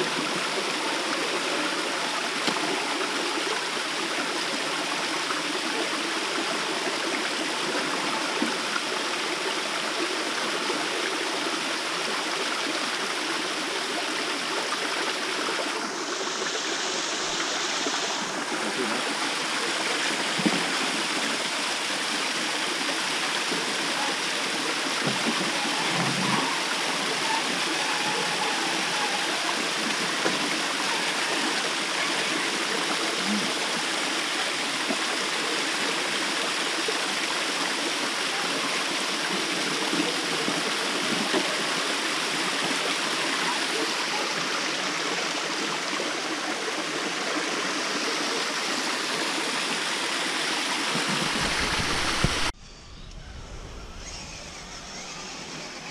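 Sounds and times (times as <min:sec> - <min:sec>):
water rushing over rocks: 0:00.0 - 0:52.6.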